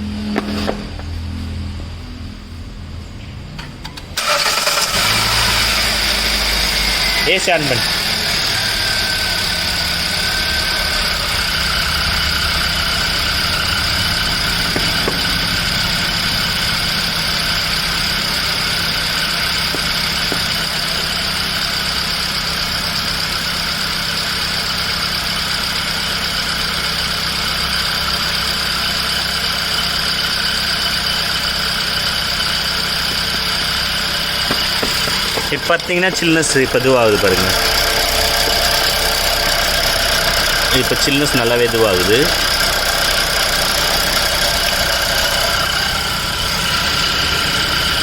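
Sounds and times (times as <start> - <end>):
ac compressor whine: 0.0 - 48.0
car engine idling: 0.0 - 48.0.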